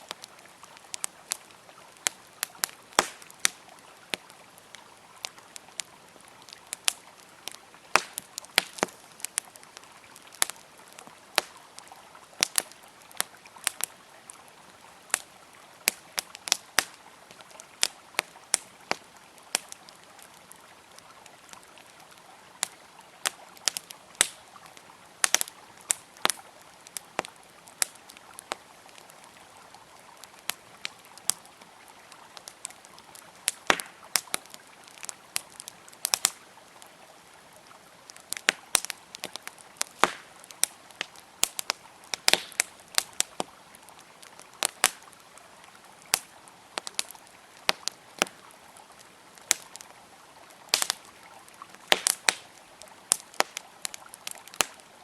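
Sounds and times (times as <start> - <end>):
campfire crackling and popping: 0.0 - 55.0
river flowing: 0.0 - 55.0.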